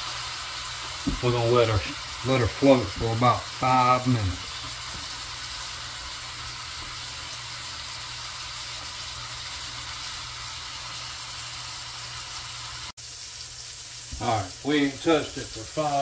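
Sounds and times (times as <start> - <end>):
meat sizzling in a skillet: 0.0 - 16.0.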